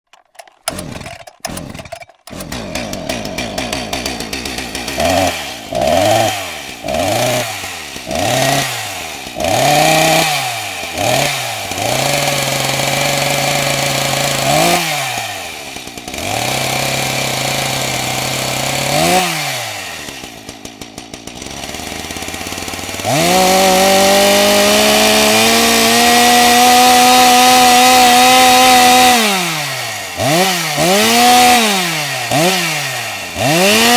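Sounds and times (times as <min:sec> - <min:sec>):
chainsaw engine revving: 0:00.1 - 0:33.9.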